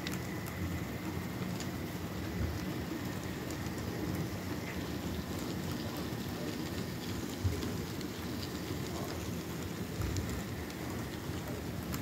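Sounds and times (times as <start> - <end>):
model train wheels rumbling on rails: 0.0 - 12.0.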